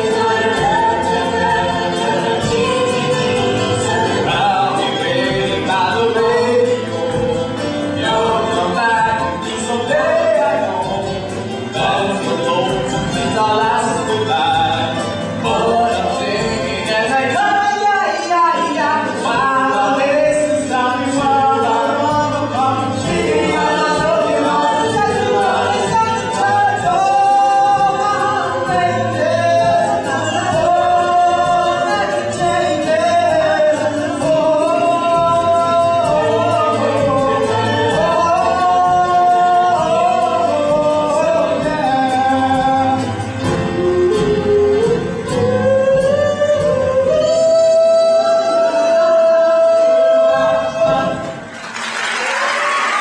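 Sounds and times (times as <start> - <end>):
instrumental accompaniment: 0.0 - 51.8
voices singing together: 0.0 - 53.0.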